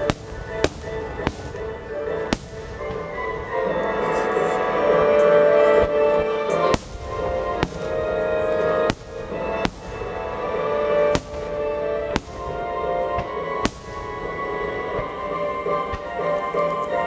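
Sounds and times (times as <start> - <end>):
firework shells booming: 0.0 - 4.1, 5.8 - 16.4.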